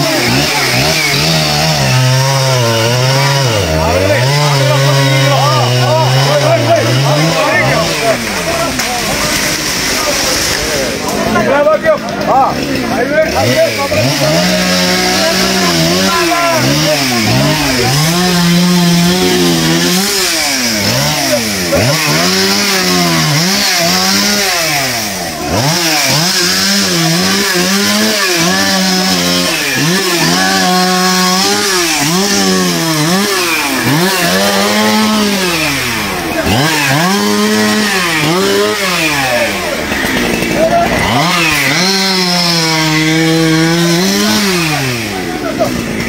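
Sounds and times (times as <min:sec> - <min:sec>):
chainsaw revving: 0:00.0 - 0:46.0.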